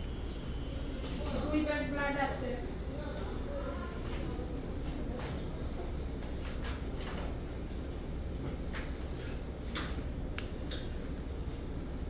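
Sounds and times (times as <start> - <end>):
low hum of room equipment: 0.0 - 12.0.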